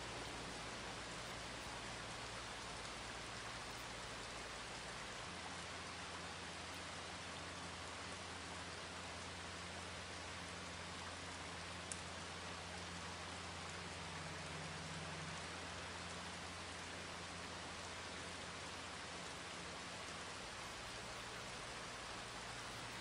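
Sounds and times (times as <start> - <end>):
rain-like hiss: 0.0 - 23.0.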